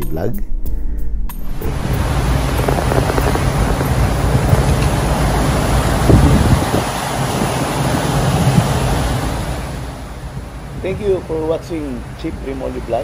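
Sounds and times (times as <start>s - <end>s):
steady low rumble: 0.1s - 13.0s
wind buffeting microphone: 1.5s - 13.0s
rush of churning wake: 1.6s - 13.0s.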